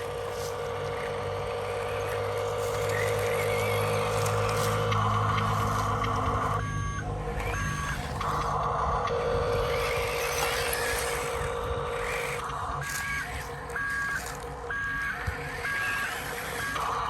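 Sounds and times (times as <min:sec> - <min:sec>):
model motors whining: 0:00.0 - 0:17.0
reversing beeper: 0:00.0 - 0:17.0.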